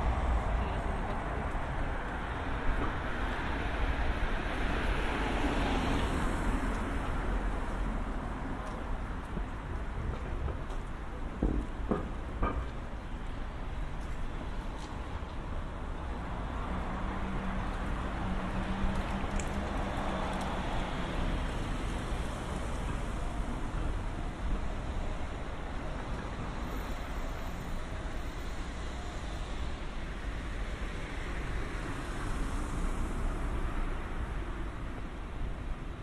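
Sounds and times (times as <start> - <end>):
cars passing: 0.0 - 36.0
low traffic rumble: 0.0 - 36.0.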